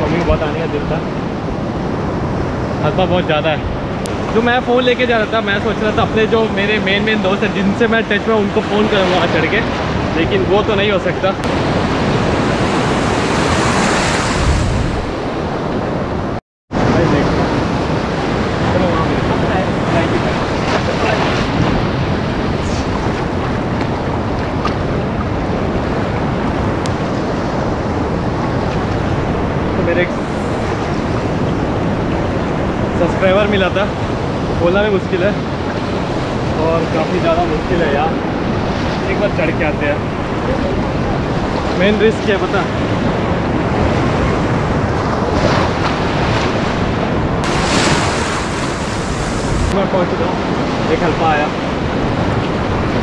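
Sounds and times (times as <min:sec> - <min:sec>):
sea surf splashing: 0:00.0 - 0:53.0
waves breaking: 0:00.0 - 0:53.0
wind buffeting microphone: 0:00.0 - 0:53.0.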